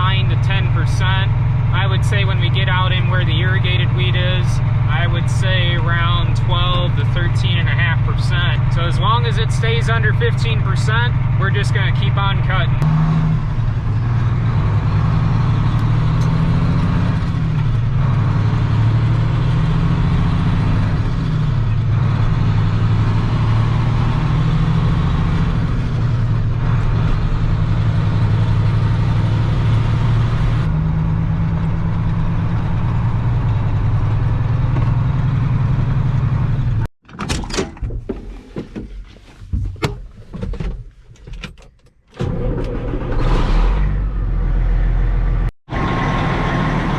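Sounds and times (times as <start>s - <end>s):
heavy machinery engine droning: 0.0s - 36.9s, 42.2s - 46.9s.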